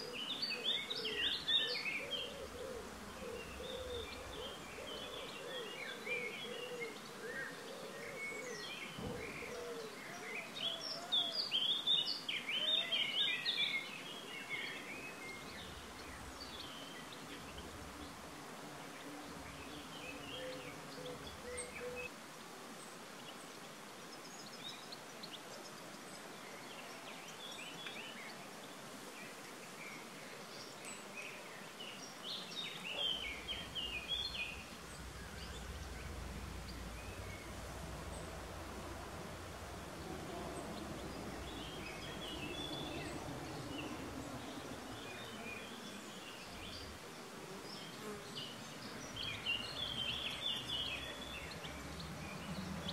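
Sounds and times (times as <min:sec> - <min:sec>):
songbirds chirping and singing: 0:00.0 - 0:22.1, 0:23.2 - 0:52.9
outdoor background hiss: 0:00.0 - 0:52.9.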